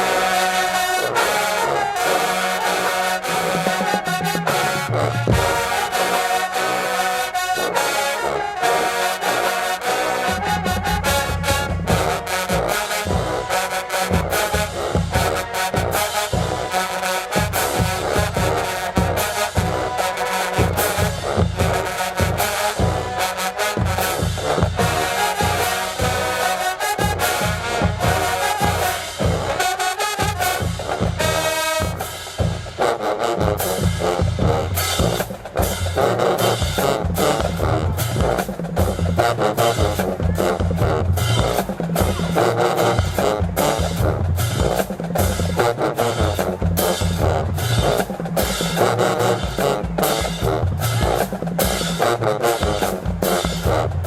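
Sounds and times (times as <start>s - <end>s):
marching band brass: 0.0s - 54.0s
snare and bass drums: 2.9s - 6.3s, 10.0s - 54.0s.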